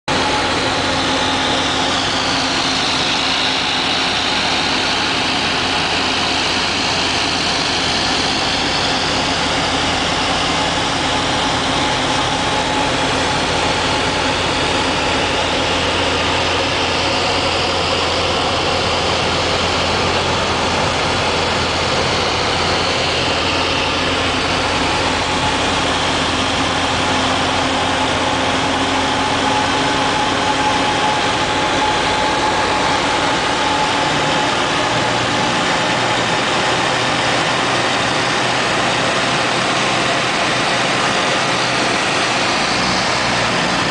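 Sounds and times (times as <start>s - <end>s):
propeller plane engine hum: 0.0s - 43.9s
rushing airflow: 0.1s - 43.9s.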